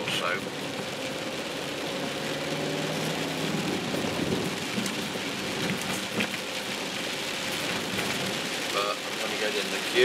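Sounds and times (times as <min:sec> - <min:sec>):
car engine running low: 0:00.0 - 0:09.3
rain pattering on car roof: 0:00.0 - 0:10.0.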